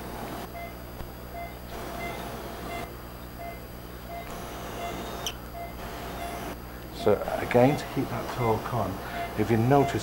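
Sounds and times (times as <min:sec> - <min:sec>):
hum of room equipment: 0:00.0 - 0:10.0
patient monitor beeping: 0:00.5 - 0:10.0.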